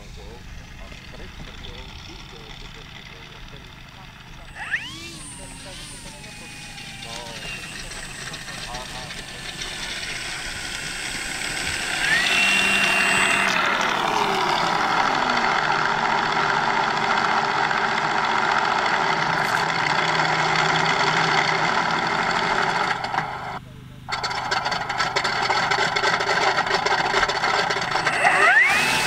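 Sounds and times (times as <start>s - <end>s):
model aircraft motor: 0.0s - 29.0s.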